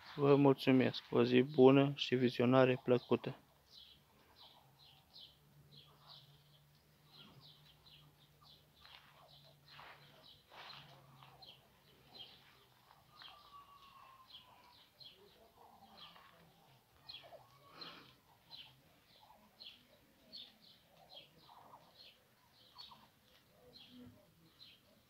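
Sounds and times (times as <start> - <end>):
faint bird chirping: 0.0 - 25.0.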